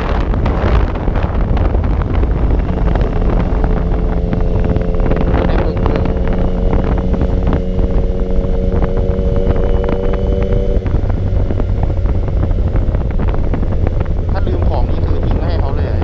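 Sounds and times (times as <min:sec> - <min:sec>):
motorcycle engine hum: 0:00.0 - 0:16.0
wind rumble on microphone: 0:00.0 - 0:16.0.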